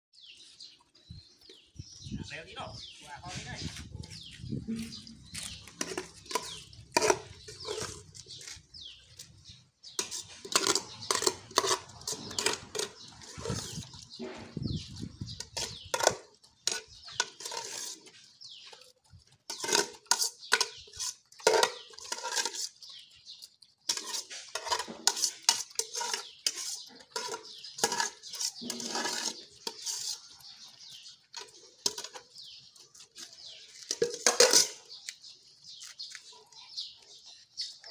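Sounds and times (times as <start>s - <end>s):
dogs eating from metal plate: 4.9s - 37.9s.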